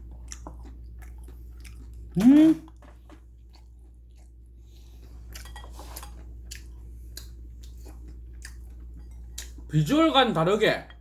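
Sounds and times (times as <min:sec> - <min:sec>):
person chewing: 0:00.0 - 0:09.7.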